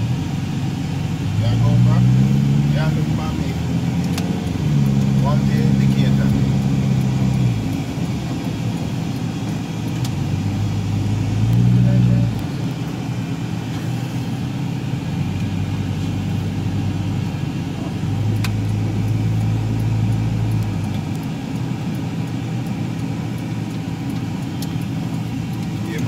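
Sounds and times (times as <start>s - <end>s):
car engine and tyre drone: 0.0s - 26.0s.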